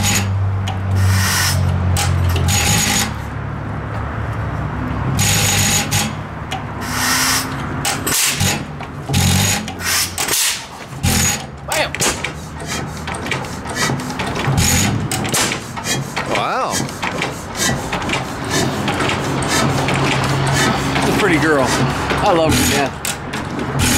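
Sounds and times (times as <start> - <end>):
stationary engine exhaust bangs: 0.0 - 23.9.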